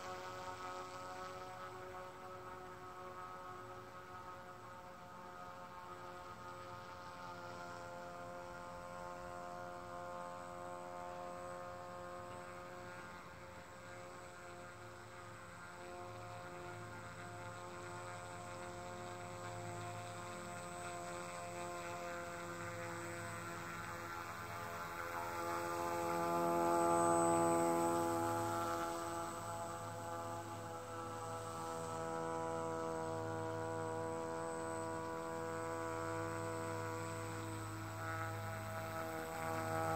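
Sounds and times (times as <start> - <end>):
model boat motor and propeller humming: 0.0 - 39.9.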